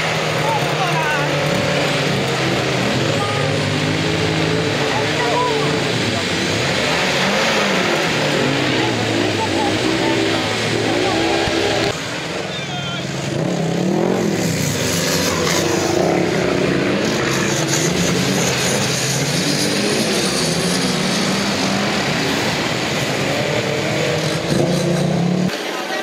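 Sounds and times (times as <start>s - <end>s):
pickup engine running hard: 0.0s - 25.5s.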